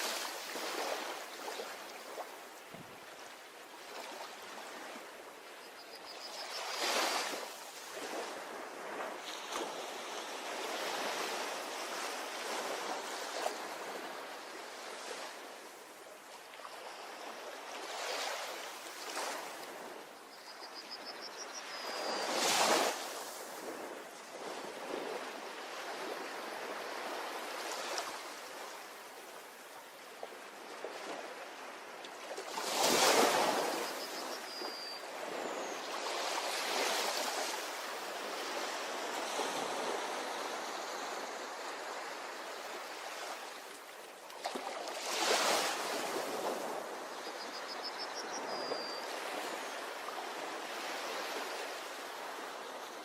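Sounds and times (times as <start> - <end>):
ocean waves washing on beach: 0.0 - 20.4, 21.1 - 53.0.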